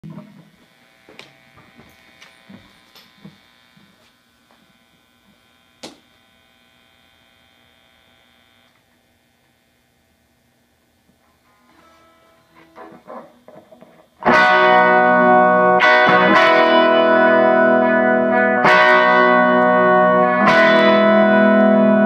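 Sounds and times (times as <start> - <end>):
guitar amplifier hum and buzz: 0.0 - 22.0.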